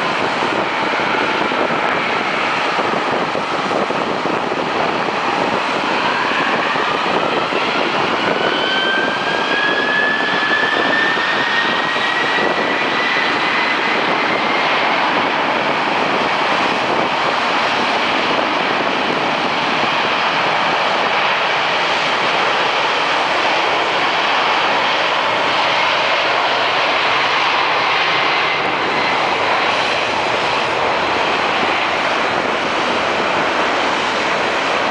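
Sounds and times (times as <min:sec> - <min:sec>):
jet engines spooling up: 0:00.0 - 0:34.9.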